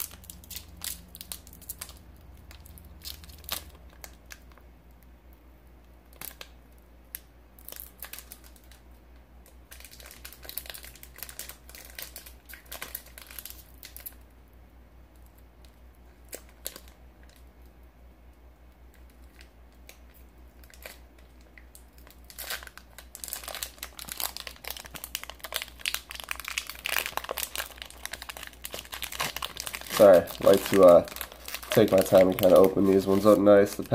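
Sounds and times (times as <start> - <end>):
foil wrapper crinkling and tearing: 0.0 - 4.6, 6.0 - 14.3, 16.1 - 17.4, 18.9 - 33.9.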